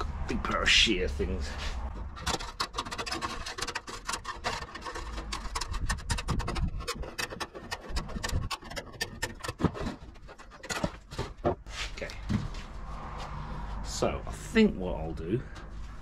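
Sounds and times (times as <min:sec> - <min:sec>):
wire mesh scraping and rattling: 0:00.4 - 0:13.5.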